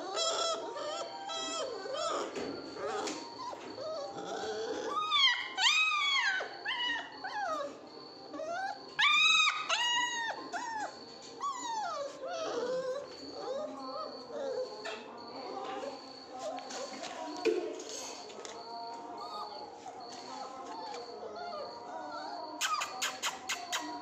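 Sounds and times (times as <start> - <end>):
puppies whining and yelping: 0.0 - 17.0, 19.1 - 24.0.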